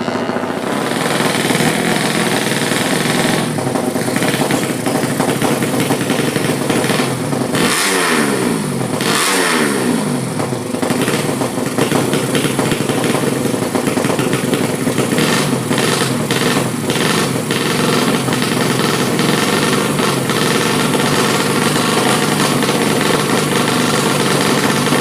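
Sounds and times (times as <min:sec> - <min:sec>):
motorcycle engine idling roughly: 0:00.0 - 0:25.0.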